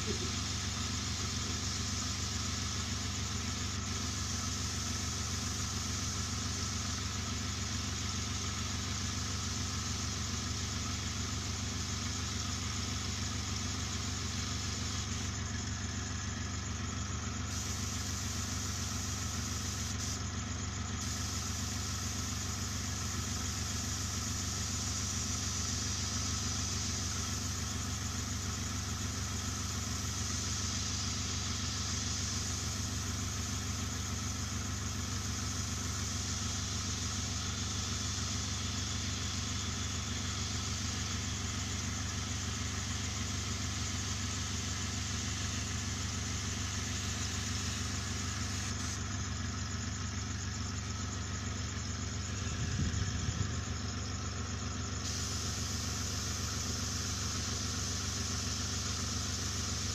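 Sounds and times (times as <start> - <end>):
air hissing: 0.0 - 49.0, 50.6 - 59.9
compressor motor hum: 0.0 - 59.9.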